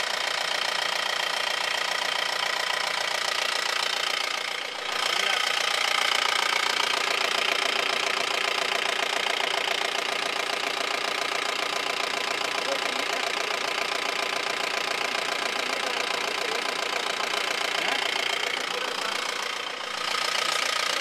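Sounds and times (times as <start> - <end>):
engine idling with rapid clatter: 0.0 - 21.0.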